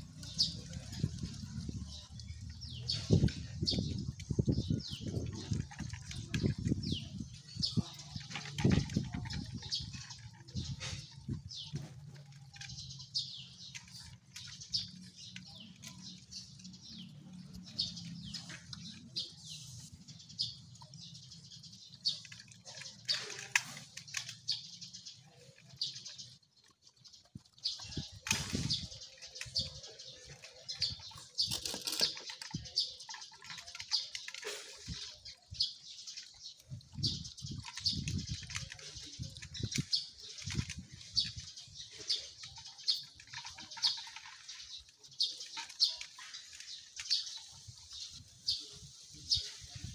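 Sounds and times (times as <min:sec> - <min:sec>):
dogs chewing and lapping: 0:00.0 - 0:48.2.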